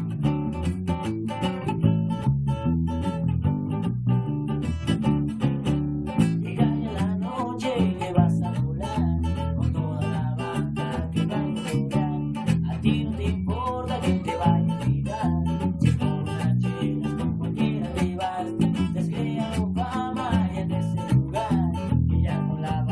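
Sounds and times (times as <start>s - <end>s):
bass guitar line: 0.0s - 22.9s
strummed guitar chords: 0.0s - 22.9s.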